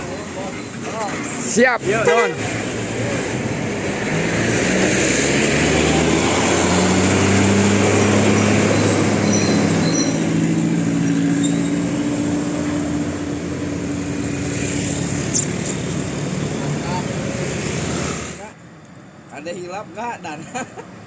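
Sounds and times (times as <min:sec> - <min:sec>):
bus engine passing: 0:00.0 - 0:19.5.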